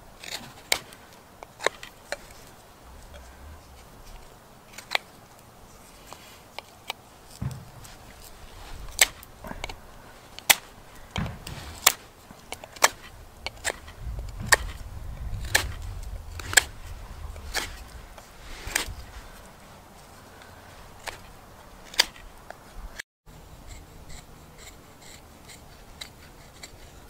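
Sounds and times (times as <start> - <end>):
knife carving wood: 0.2 - 19.0, 23.5 - 27.0.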